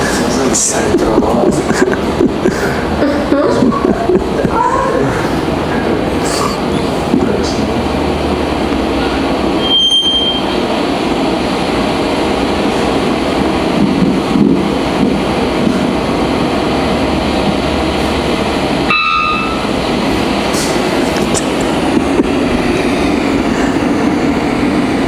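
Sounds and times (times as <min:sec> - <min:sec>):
steady noisy rush: 0:00.0 - 0:25.0.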